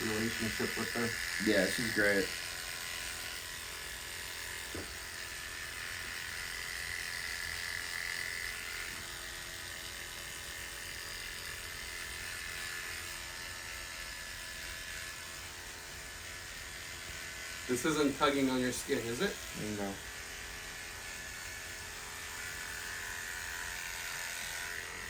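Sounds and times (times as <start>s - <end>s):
electric hair clippers running: 0.0s - 25.0s.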